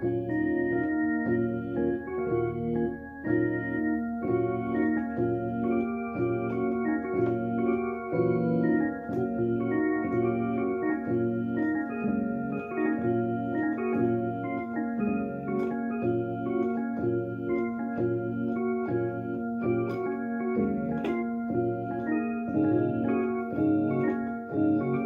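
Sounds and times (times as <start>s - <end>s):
electronic keyboard organ chords: 0.0s - 25.0s.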